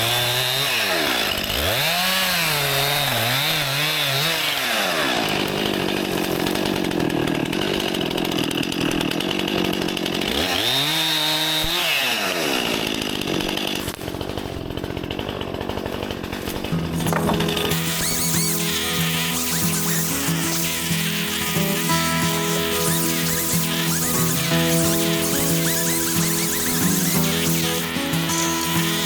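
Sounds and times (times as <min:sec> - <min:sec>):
chainsaw cutting at high revs: 0:00.0 - 0:29.0.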